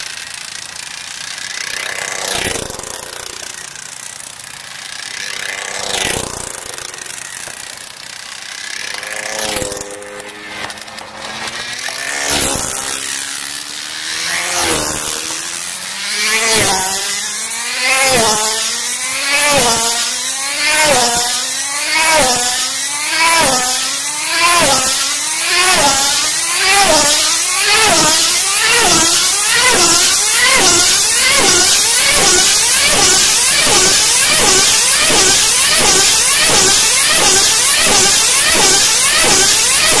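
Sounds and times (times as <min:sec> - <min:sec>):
small engine high whine: 0:00.0 - 0:40.0.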